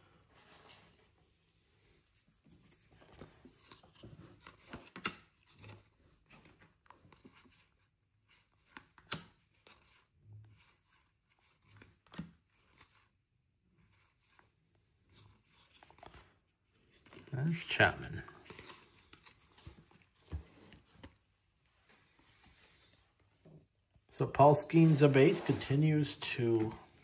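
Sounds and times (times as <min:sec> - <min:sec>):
cards rustling and sliding: 0:02.2 - 0:13.2, 0:13.8 - 0:23.5, 0:24.2 - 0:27.0.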